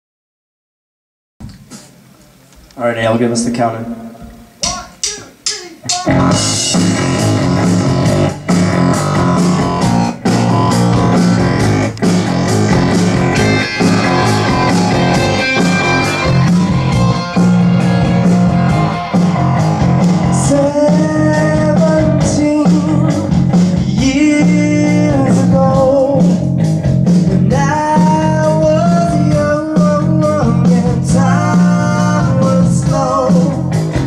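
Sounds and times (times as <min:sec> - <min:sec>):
drum kit beat: 0:04.1 - 0:34.0
keyboard: 0:04.6 - 0:34.0
electric guitar: 0:05.8 - 0:34.0
bending melody line: 0:05.9 - 0:33.3.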